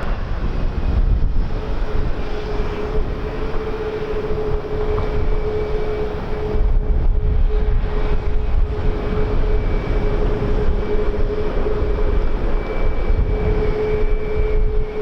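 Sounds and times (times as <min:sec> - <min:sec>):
aircraft engines humming: 0:00.0 - 0:15.0
high engine whine: 0:00.0 - 0:15.0
wind rumble on microphone: 0:00.0 - 0:15.0.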